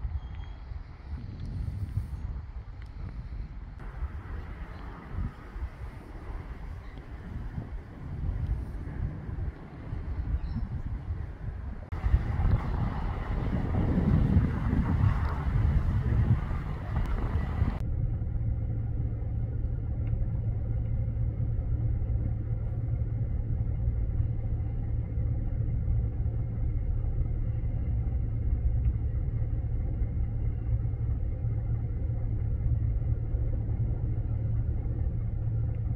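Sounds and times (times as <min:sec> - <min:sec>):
constant hum: 0:00.0 - 0:35.9
low mechanical rumble: 0:00.0 - 0:35.9.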